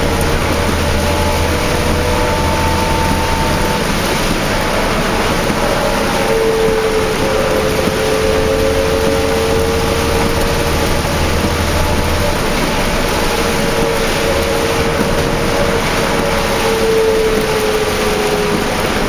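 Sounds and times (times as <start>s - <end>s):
bus drivetrain whine: 0.0s - 19.0s
rain and road noise: 0.0s - 19.0s.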